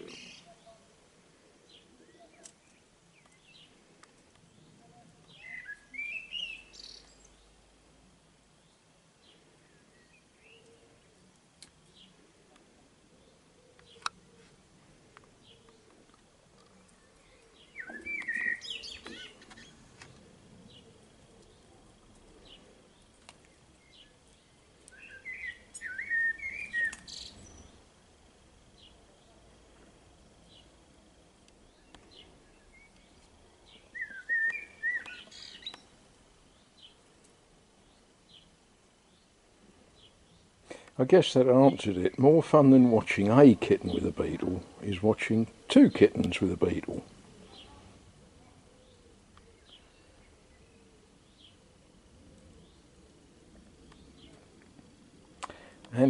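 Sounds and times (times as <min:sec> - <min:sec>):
songbird chirping: 0:00.0 - 0:56.0.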